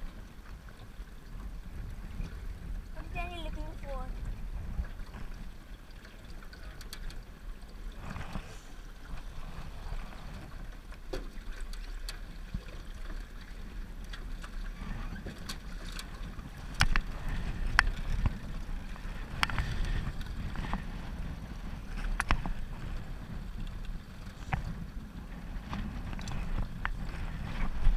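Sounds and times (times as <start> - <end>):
wind on microphone: 0.0 - 10.9, 14.6 - 27.9
boat rumbling on water: 0.0 - 27.9.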